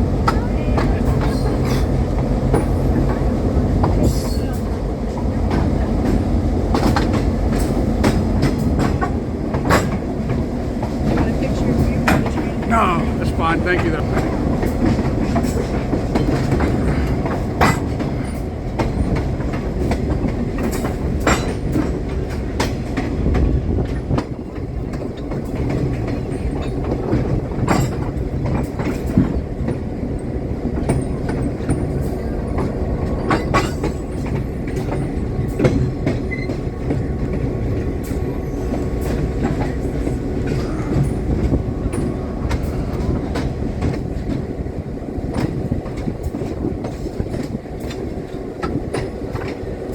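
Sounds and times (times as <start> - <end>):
wheels clicking over rail joints: 0.0 - 13.2, 13.8 - 49.9
train rumbling on track: 0.0 - 49.9.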